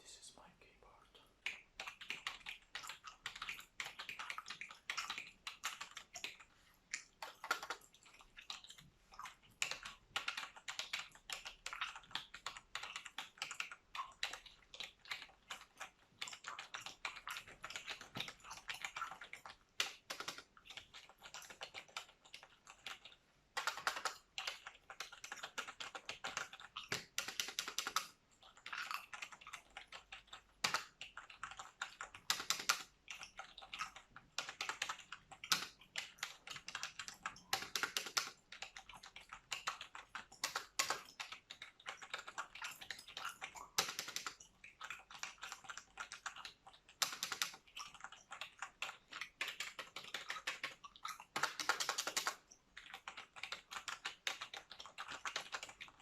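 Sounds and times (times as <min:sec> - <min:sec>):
gum chewing: 0:01.2 - 0:19.8, 0:20.4 - 0:27.0, 0:28.3 - 0:32.3, 0:38.3 - 0:51.6, 0:52.3 - 0:56.0
keyboard typing: 0:01.4 - 0:56.0.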